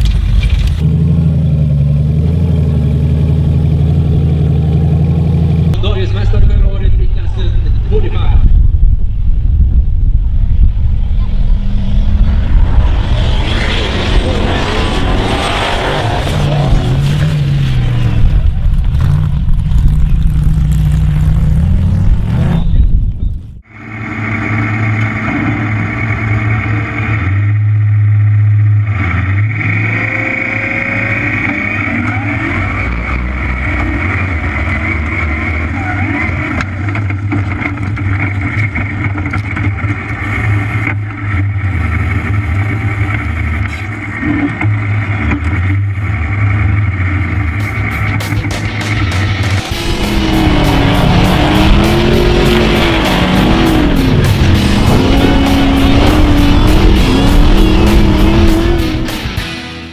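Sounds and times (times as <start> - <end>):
buggy engine heard from on board: 0.0 - 8.0, 9.1 - 59.6
offroad buggy engines at full throttle: 0.0 - 59.9.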